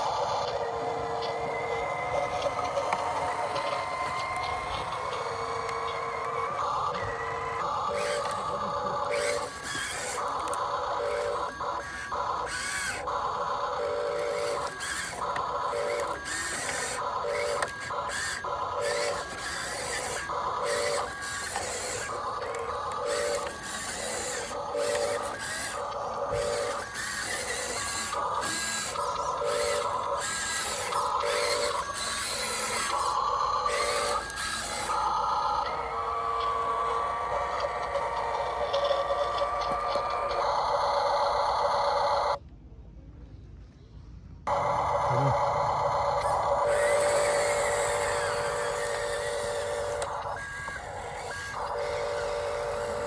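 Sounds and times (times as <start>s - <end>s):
small electric motors whining: 0.0s - 42.4s, 44.5s - 53.0s.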